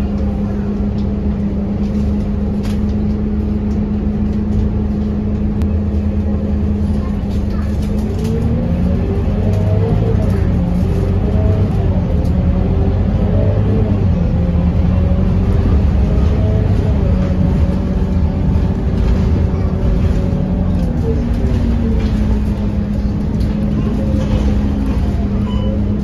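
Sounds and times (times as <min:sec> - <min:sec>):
bus diesel engine rumbling: 0:00.0 - 0:26.0
faint engine whine: 0:00.0 - 0:26.0.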